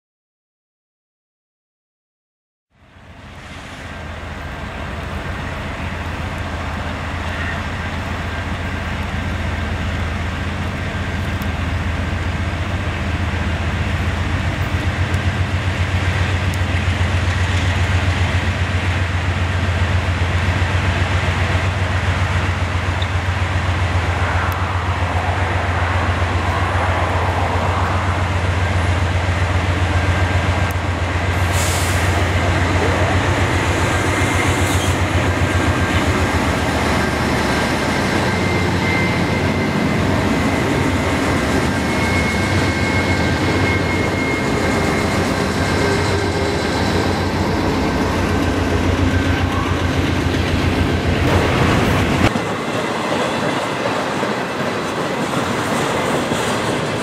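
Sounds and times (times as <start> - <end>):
diesel locomotives rumbling: 2.7 - 57.0.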